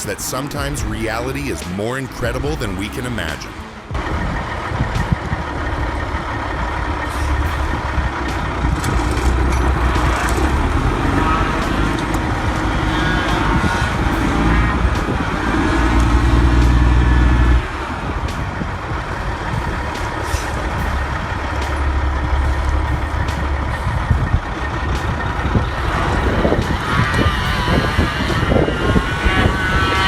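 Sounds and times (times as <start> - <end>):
heavy engine running: 0.0 - 30.0.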